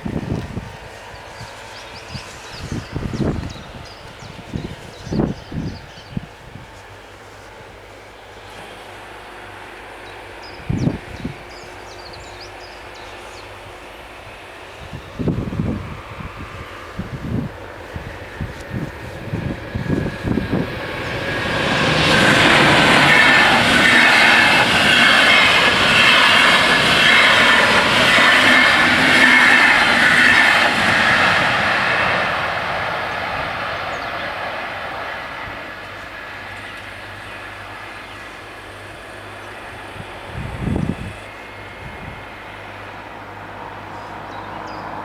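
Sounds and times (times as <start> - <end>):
wind buffeting microphone: 0.0 - 7.9, 9.5 - 45.0
train passing: 0.0 - 45.0.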